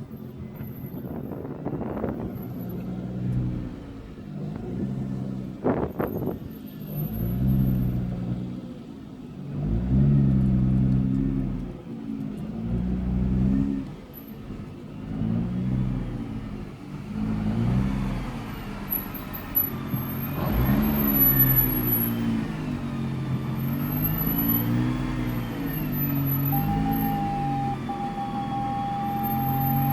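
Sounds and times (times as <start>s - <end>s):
car engine running under load: 0.0s - 29.9s.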